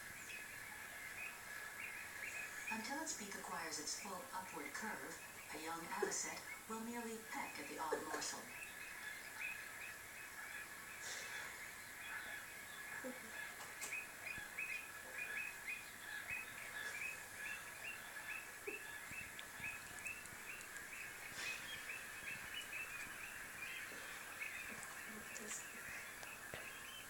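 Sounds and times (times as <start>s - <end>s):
background hiss: 0.0s - 27.0s
birds calling: 0.0s - 27.0s.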